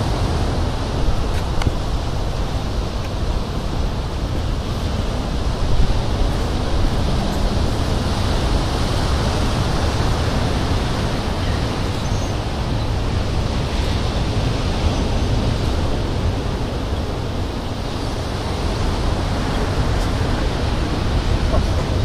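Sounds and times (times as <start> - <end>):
beach surf: 0.0 - 22.0
wind: 0.0 - 22.0.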